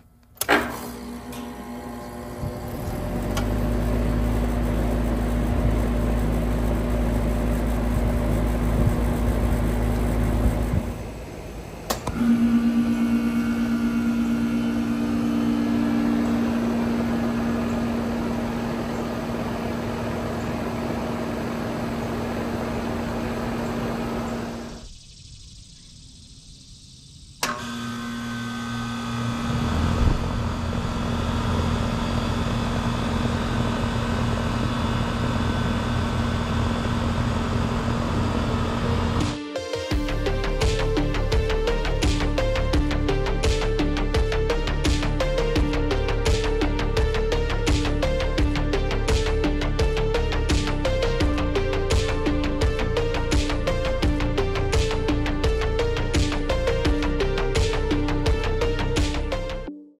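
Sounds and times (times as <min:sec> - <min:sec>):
condenser fan spinning up: 0:00.4 - 0:25.6, 0:27.4 - 0:59.5.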